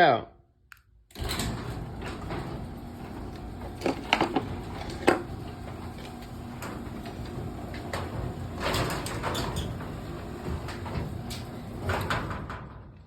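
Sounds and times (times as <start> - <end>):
garage door opener running: 1.1 - 13.0.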